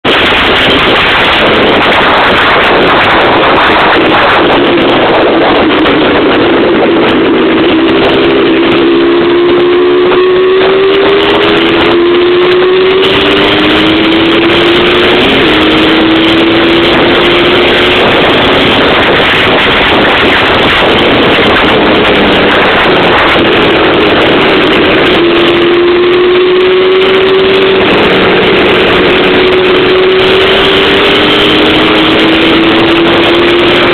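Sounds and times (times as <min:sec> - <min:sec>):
two-stroke engine revving: 0:00.0 - 0:33.9
wind noise on microphone: 0:00.0 - 0:33.9.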